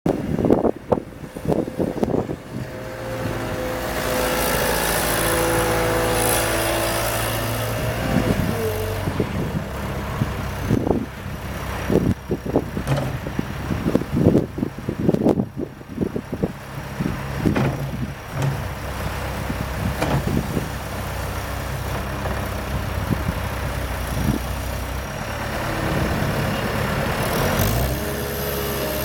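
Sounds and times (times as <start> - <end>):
diesel engine running: 0.1 - 29.0.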